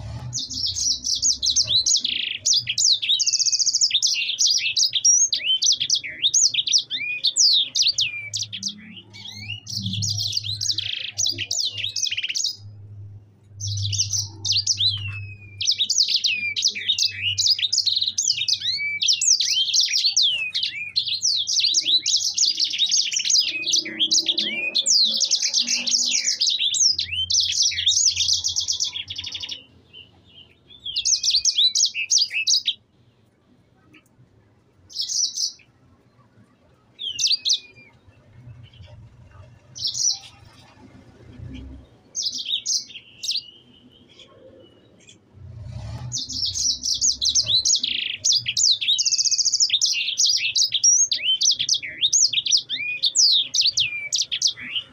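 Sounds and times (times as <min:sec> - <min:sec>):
finch singing: 0:00.0 - 0:32.8, 0:34.9 - 0:36.0, 0:36.8 - 0:54.9.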